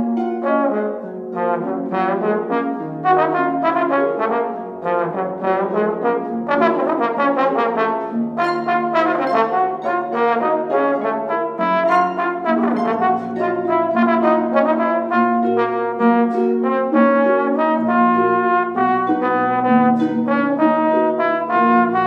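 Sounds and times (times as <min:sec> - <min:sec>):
pedal harp: 0:00.0 - 0:22.0
trombone: 0:00.0 - 0:22.0.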